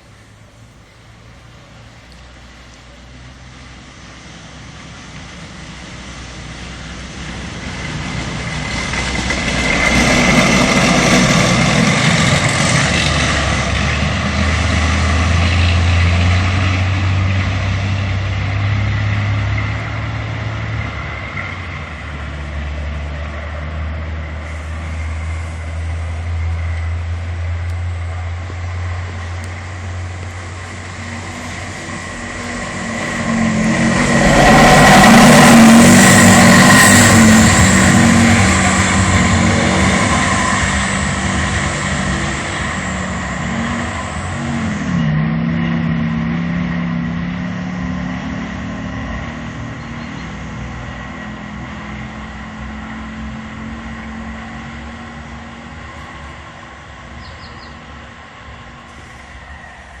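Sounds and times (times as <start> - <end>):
vehicle droning past: 0.0 - 60.0.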